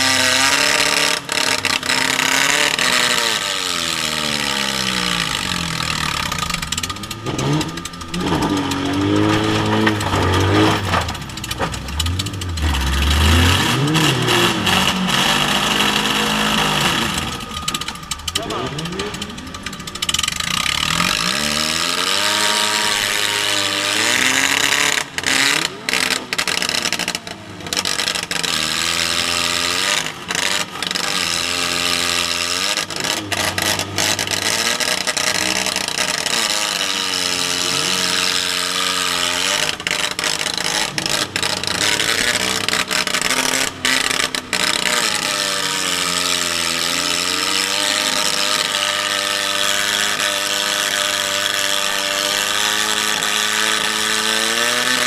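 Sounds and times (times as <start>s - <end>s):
car engine revving: 0.0s - 55.0s
loud dense clattering: 0.0s - 55.0s.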